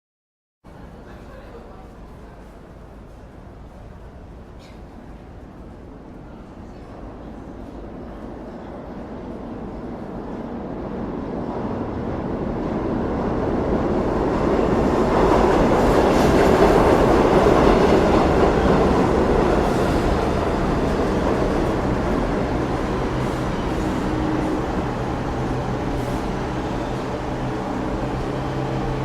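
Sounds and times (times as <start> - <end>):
subway train rail noise: 0.7 - 29.0.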